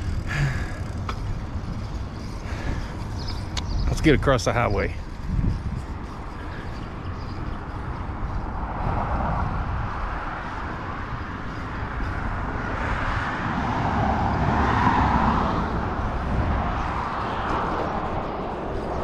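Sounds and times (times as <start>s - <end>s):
car passing on highway: 0.0s - 19.0s
wind rumble on microphone: 0.0s - 19.0s.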